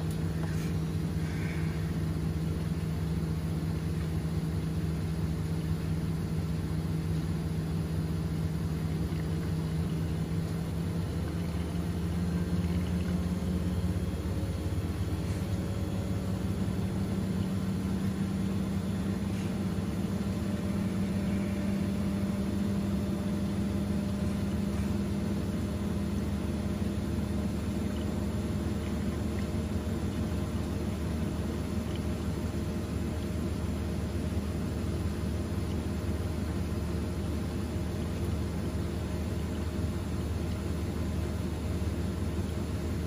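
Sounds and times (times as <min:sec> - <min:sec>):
washing machine motor humming: 0:00.0 - 0:43.0.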